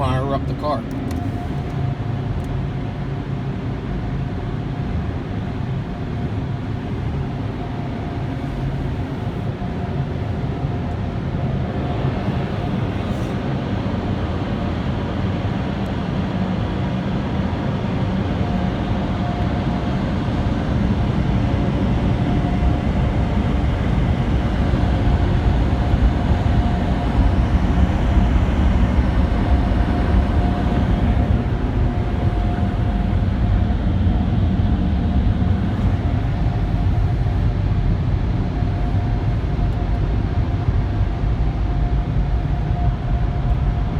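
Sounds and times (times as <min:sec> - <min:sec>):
car wash dryer blowers: 0:00.0 - 0:43.9.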